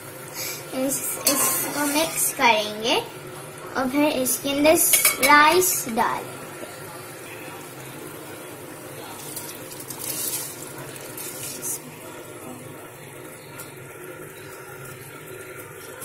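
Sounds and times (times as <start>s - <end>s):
pot of water boiling: 0.0s - 16.0s.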